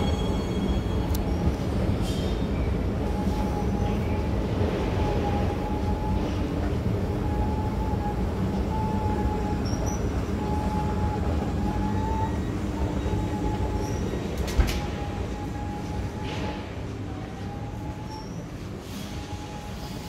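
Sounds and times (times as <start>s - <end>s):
escalator machinery rumbling: 0.0s - 20.0s.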